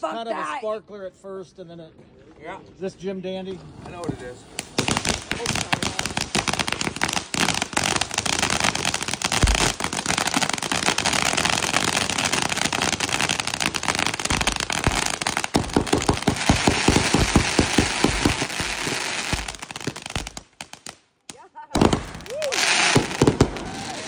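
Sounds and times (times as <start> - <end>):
firework fountain crackling: 3.5 - 24.0
sharp firework pops and thumps: 3.9 - 23.9.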